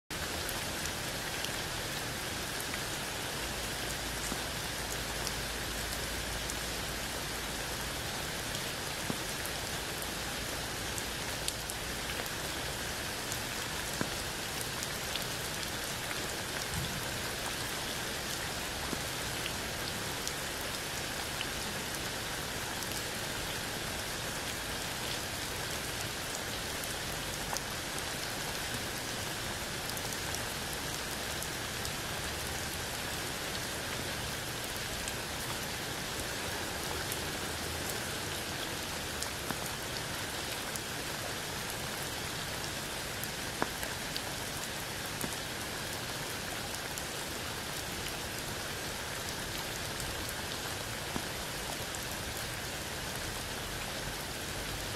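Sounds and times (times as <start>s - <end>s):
rain falling on wet ground: 0.1s - 54.9s.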